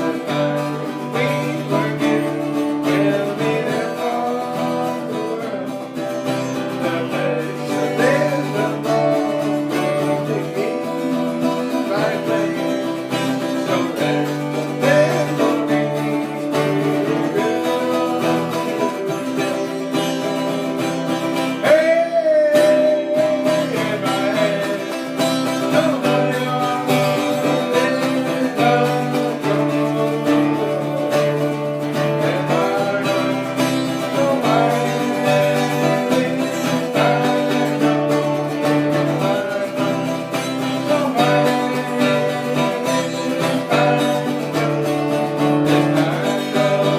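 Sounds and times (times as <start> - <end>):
acoustic guitar music: 0.0 - 46.9.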